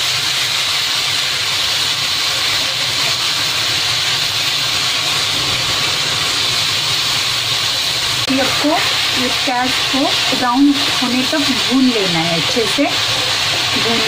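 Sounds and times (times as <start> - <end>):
onion frying in hot oil: 0.0 - 14.0.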